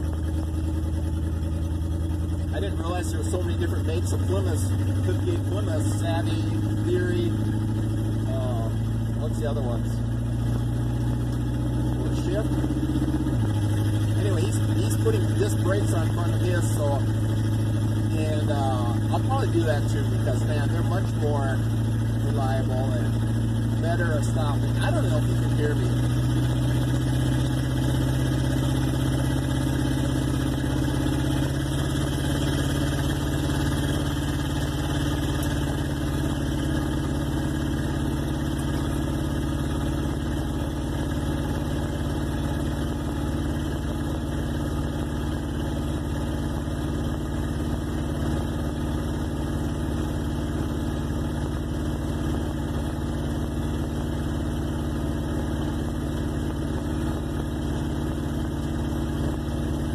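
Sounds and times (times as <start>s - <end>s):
car engine running without muffler: 0.0s - 59.9s.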